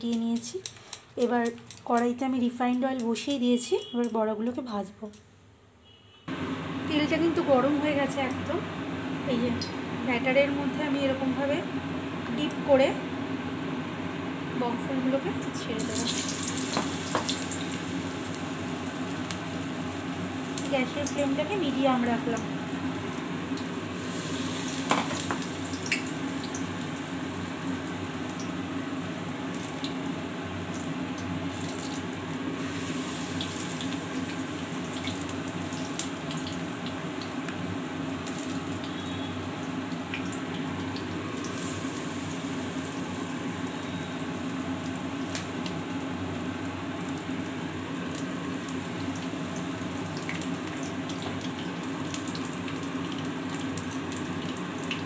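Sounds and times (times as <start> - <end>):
deep-frying sizzle: 5.8 - 55.0.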